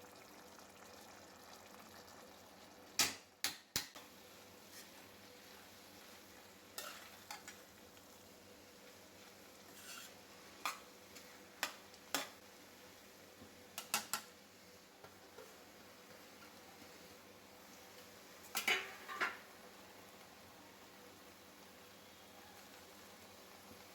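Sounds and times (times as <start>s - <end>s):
cooking hiss: 0.0s - 23.9s.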